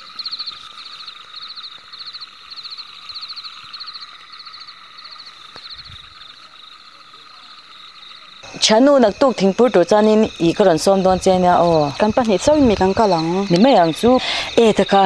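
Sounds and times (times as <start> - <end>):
high-pitched insect drone: 0.0 - 15.0
rapid pulsed animal call: 0.0 - 15.0.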